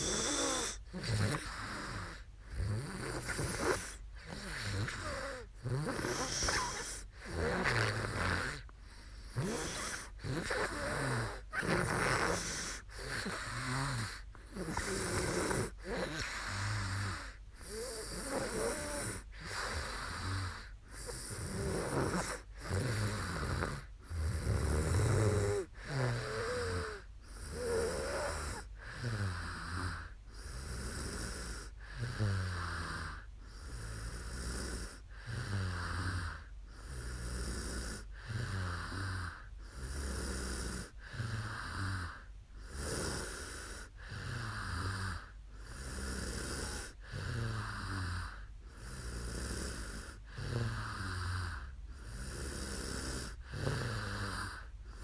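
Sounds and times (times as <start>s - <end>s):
woman snoring: 0.0s - 55.0s.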